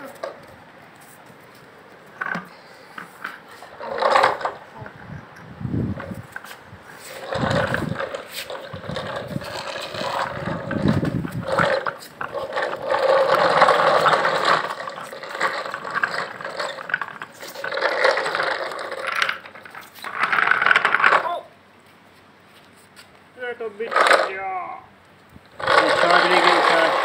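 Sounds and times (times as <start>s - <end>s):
toy truck wheels rolling on stone: 0.0s - 21.5s, 23.8s - 24.6s, 25.4s - 27.0s.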